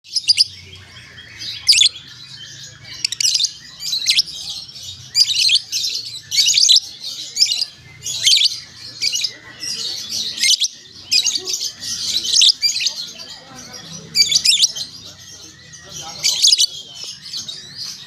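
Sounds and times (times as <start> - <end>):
bird shrill chirps: 0.0 - 18.0.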